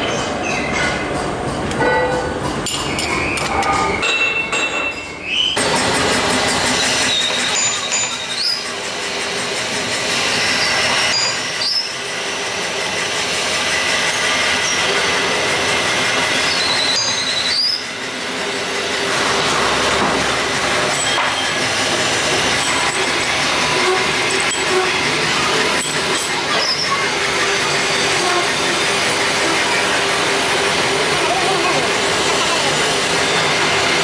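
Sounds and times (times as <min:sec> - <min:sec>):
metal lathe clatter and squeal: 0:00.0 - 0:34.0.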